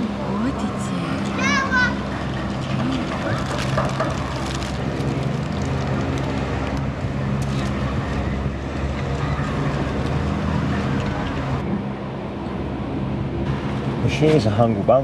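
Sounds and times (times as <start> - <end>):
low mechanical hum: 0.0 - 14.9
outdoor noise: 0.0 - 15.0.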